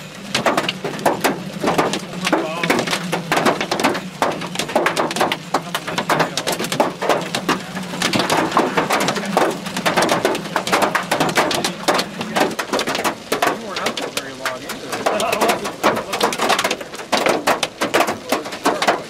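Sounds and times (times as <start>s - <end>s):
hailstones pelting down: 0.0s - 19.0s.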